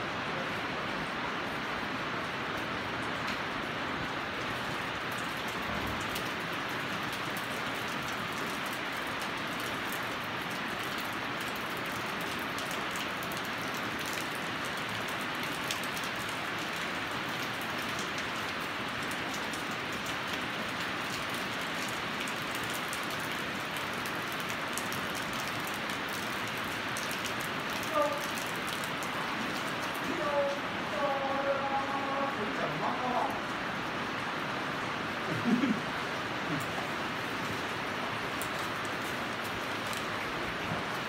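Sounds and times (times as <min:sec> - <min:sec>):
heavy rain on roof: 0:00.0 - 0:41.0.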